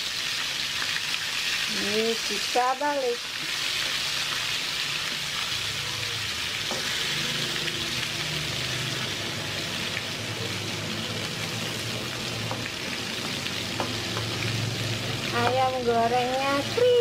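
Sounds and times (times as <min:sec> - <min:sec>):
chicken deep-frying sizzle: 0:00.0 - 0:17.0.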